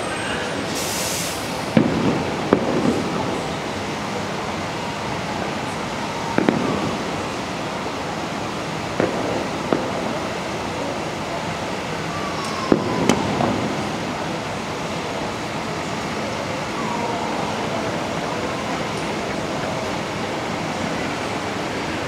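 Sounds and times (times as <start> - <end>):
fireworks bangs: 1.5 - 22.0.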